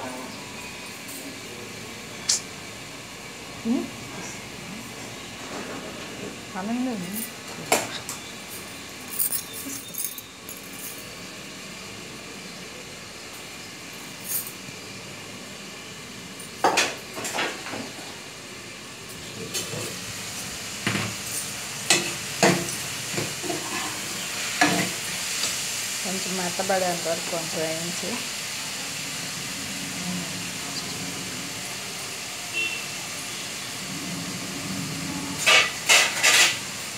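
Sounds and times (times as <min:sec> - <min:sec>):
vegetables sizzling in a pan: 0:00.0 - 0:09.0, 0:11.1 - 0:36.9.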